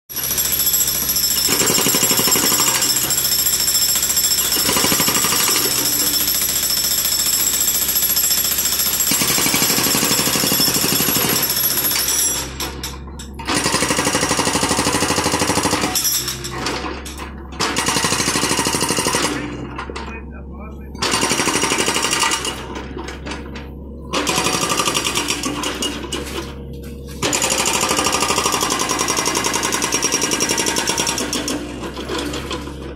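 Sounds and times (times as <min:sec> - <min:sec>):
hydraulic breaker pounding concrete: 0:00.1 - 0:32.9
excavator engine running: 0:00.2 - 0:32.9.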